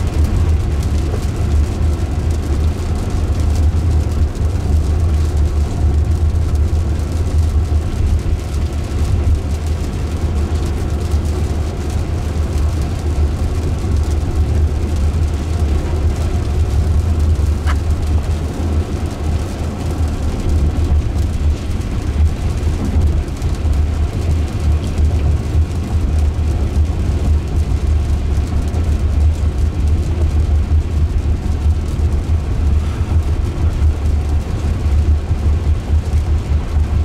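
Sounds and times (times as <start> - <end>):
deep low road rumble: 0.0 - 37.0.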